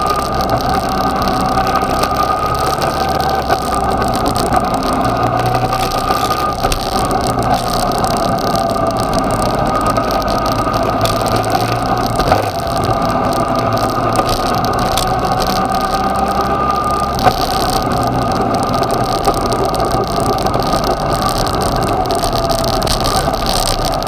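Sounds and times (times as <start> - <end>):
steady whine: 0.0 - 24.0
wind rush on microphone: 0.0 - 24.0.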